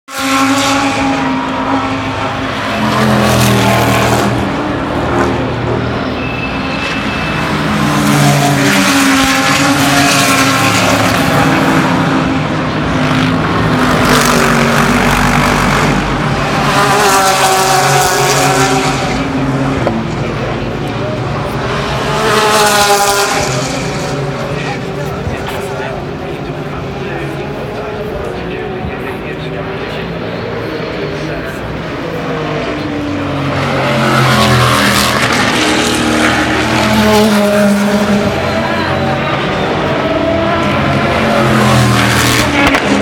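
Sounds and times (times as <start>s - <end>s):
race car engines passing: 0.1s - 43.0s.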